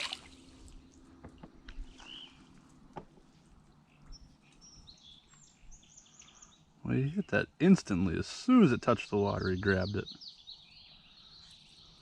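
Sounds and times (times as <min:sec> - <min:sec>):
faint bird chirps: 0:01.6 - 0:02.7, 0:03.3 - 0:12.0.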